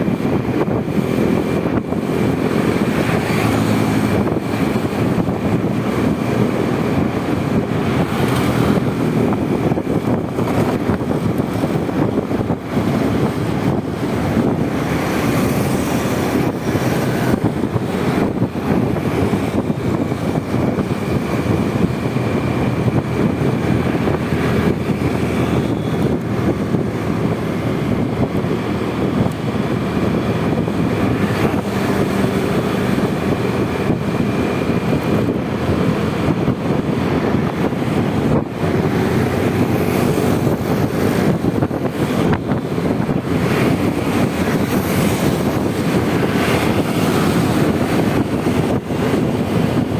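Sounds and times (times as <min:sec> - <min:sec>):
road noise: 0:00.0 - 0:49.9
scooter engine running: 0:00.0 - 0:49.9
wind buffeting microphone: 0:00.0 - 0:49.9.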